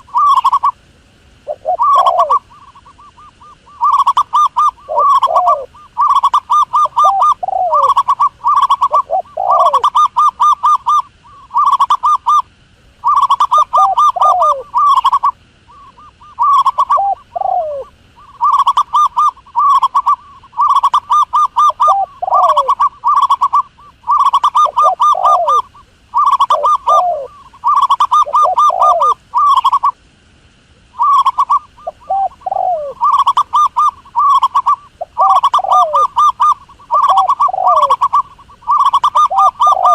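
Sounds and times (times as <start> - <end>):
dove cooing: 0.0 - 0.8, 1.4 - 30.0, 30.8 - 39.9.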